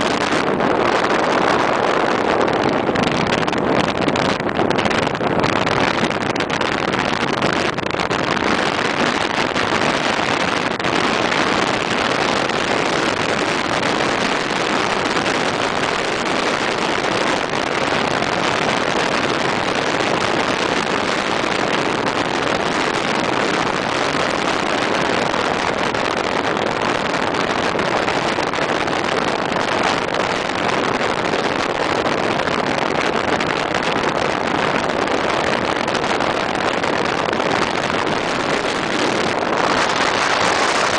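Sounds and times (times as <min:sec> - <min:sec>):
car road and wind noise: 0:00.0 - 0:40.9.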